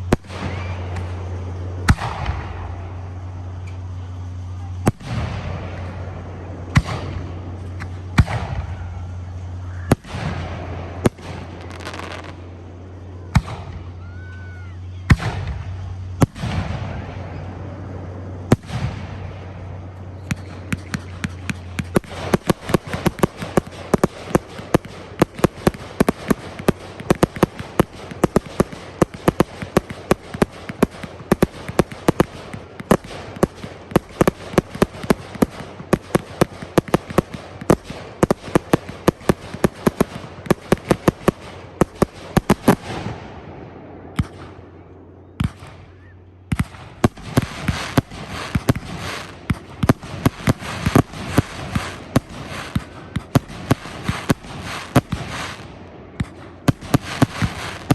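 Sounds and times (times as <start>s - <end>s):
rapid firework cracks and pops: 0.0s - 6.1s, 6.7s - 12.4s, 13.3s - 17.0s, 20.0s - 43.3s, 44.1s - 44.6s, 45.4s - 45.9s, 46.5s - 57.9s
firework shells booming: 0.0s - 14.0s, 15.0s - 44.8s, 45.4s - 57.9s
low hum: 0.0s - 57.9s.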